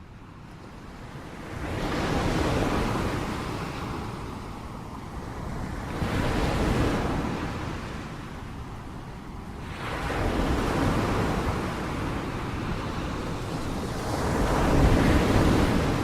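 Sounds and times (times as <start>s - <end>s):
ocean waves crashing: 1.7s - 16.0s.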